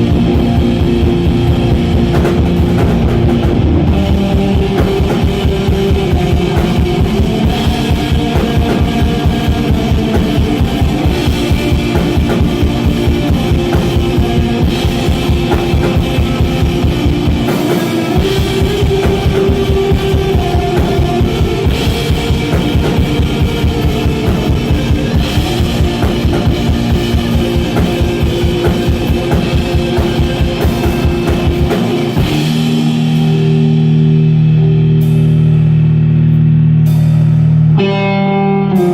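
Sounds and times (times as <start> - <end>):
rapid kick drum: 0.0 - 33.2
electric guitar: 0.0 - 38.9
held low guitar chord: 0.0 - 38.9.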